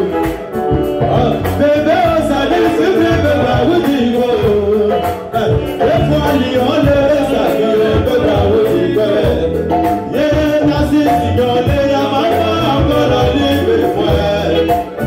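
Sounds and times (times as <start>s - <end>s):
live band music: 0.0s - 15.0s
man singing into microphone: 0.0s - 15.0s.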